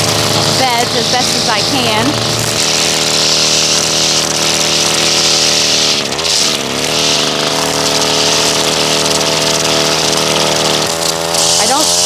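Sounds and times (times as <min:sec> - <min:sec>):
string trimmer engine running: 0:00.0 - 0:12.0
trimmer line whipping through grass: 0:00.0 - 0:12.0.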